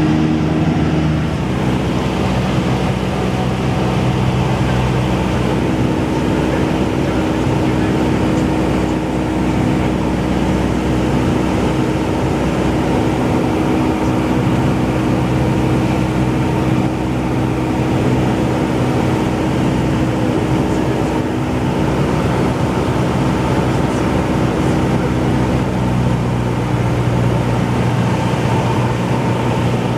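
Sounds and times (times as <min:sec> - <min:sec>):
light aircraft engine and propeller: 0:00.0 - 0:29.9.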